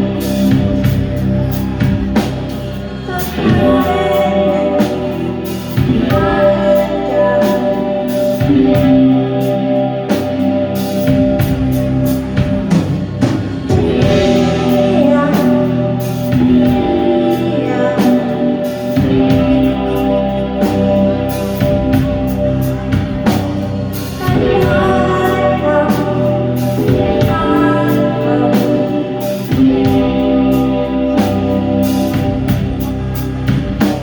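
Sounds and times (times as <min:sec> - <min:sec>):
bass guitar: 0:00.0 - 0:34.0
guitar: 0:00.0 - 0:34.0
person singing: 0:00.0 - 0:34.0.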